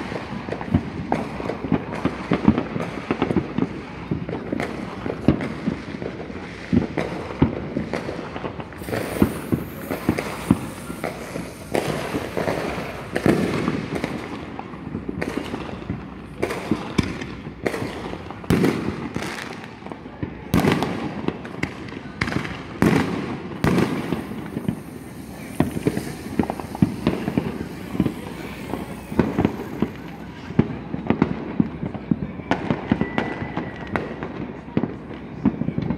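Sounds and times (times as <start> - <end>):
fireworks bangs: 0.0 - 35.9.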